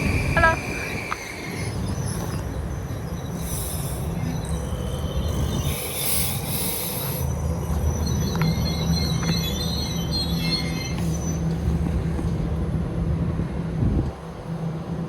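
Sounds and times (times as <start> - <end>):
high wheel squeal: 0.0 - 12.1
electric train rumbling: 0.0 - 15.0.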